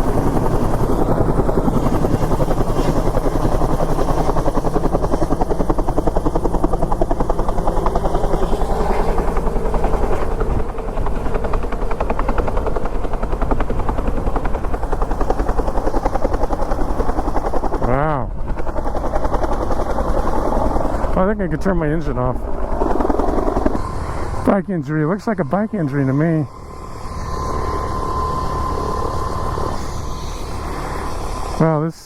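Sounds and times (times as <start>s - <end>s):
helicopter rotor chopping: 0.0s - 32.0s.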